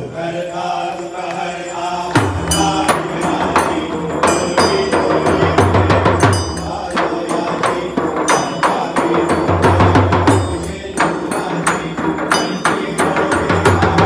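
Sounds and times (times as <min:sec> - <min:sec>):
small hand cymbals: 0:00.1 - 0:14.0
barrel drum: 0:02.2 - 0:14.0.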